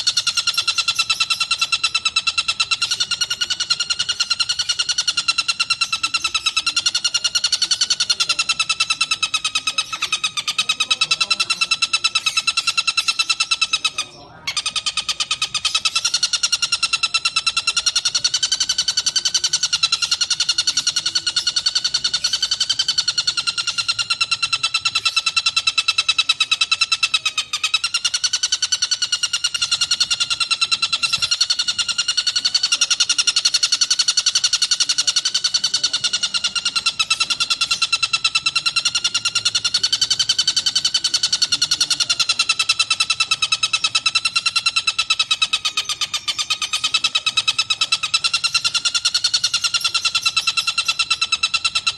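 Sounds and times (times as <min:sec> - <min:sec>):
kingfisher rapid trill: 0:00.0 - 0:51.9.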